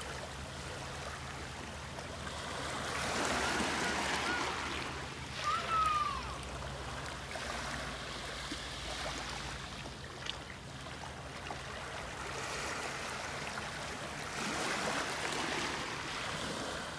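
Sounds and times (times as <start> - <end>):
waves lapping on pebble beach: 0.0 - 16.9.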